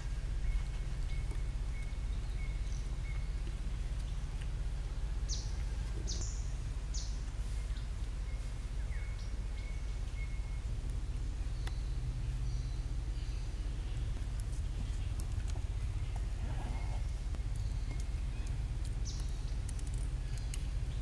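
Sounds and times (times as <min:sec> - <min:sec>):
birds chirping: 0:00.0 - 0:21.0
steady low rumble: 0:00.0 - 0:21.0.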